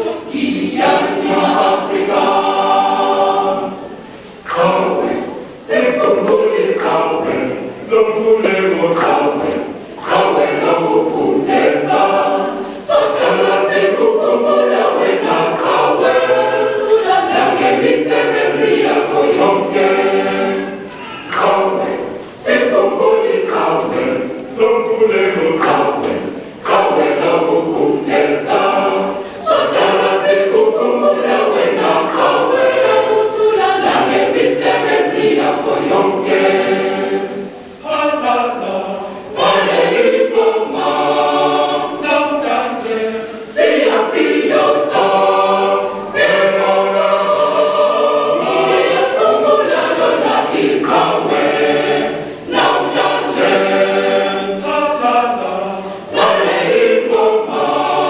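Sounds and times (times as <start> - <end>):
mixed choir singing unaccompanied: 0.0 - 58.0.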